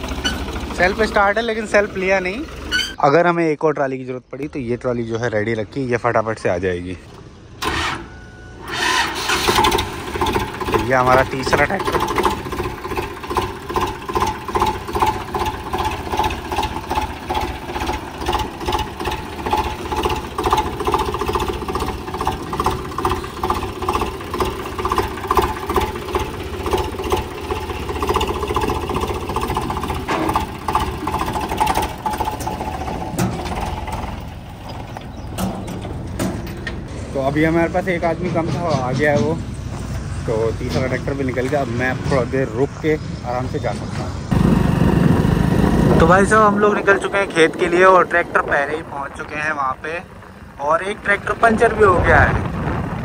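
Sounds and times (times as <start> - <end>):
tractor diesel engine chugging: 0.0 - 3.0, 7.6 - 42.9, 43.6 - 53.0.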